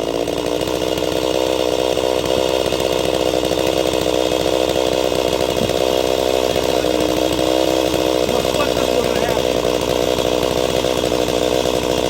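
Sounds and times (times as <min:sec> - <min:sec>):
chainsaw cutting a log: 0:00.0 - 0:12.0.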